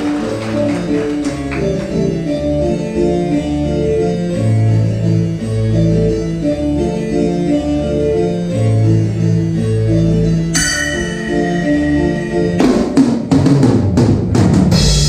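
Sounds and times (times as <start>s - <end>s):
keyboard music with organ chords: 0.0s - 14.2s.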